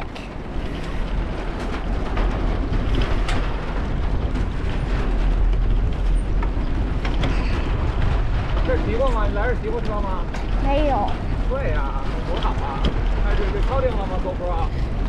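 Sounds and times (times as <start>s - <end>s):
tyres rattling over wooden planks: 0.0s - 15.0s
wind rumbling on microphone: 0.0s - 15.0s.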